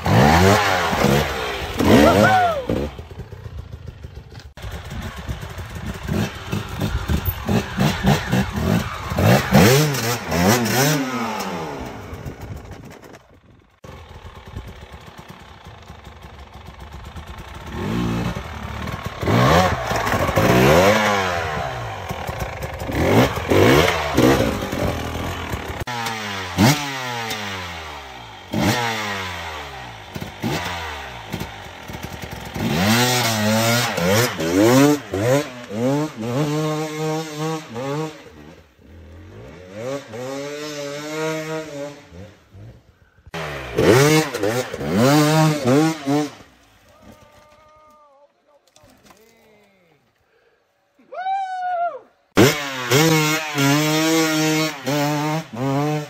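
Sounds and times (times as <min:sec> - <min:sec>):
dirt bike engines revving: 0:00.0 - 0:47.6, 0:52.3 - 0:56.0.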